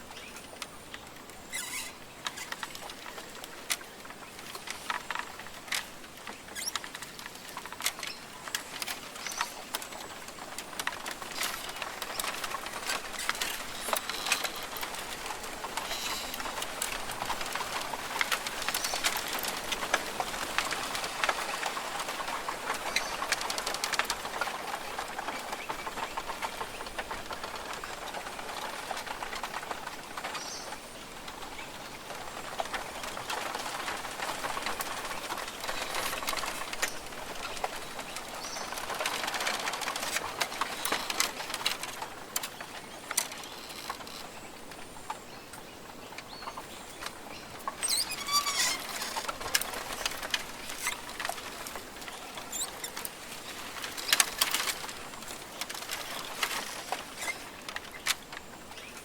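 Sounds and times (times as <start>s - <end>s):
small clicks and rustles: 0.0s - 59.0s
steady background hiss: 0.0s - 59.0s.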